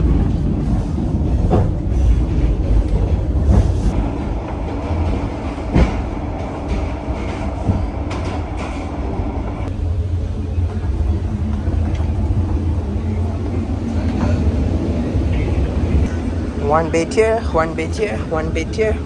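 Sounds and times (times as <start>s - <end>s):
train carriage rumble: 0.0s - 19.0s.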